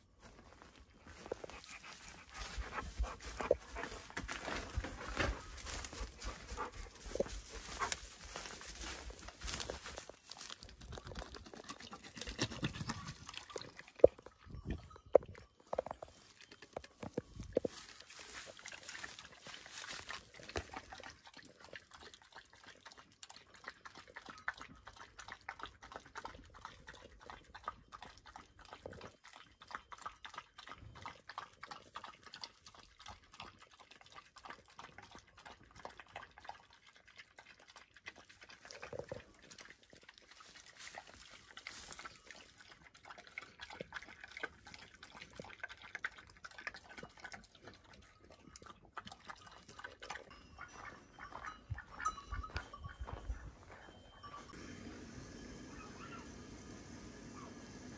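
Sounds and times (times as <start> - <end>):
dog chewing and lapping: 0.2 - 54.6.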